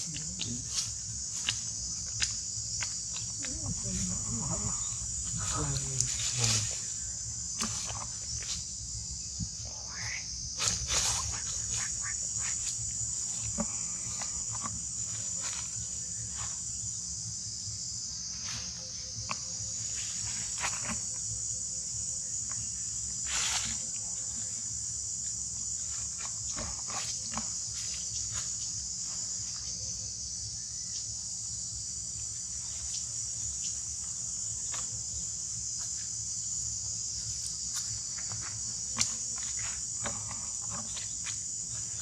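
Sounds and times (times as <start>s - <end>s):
insect chorus drone: 0.0s - 42.0s.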